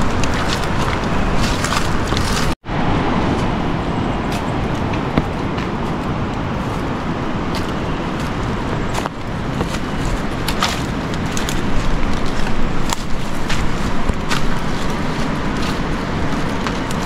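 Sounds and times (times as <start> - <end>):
dry branches crackling and knocking: 0.0 - 2.6, 4.3 - 17.0
steady rushing background noise: 0.0 - 17.0.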